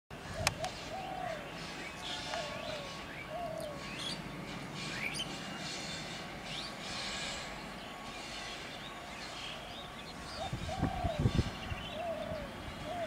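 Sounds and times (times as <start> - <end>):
distant freight train rumble: 0.1 - 13.0.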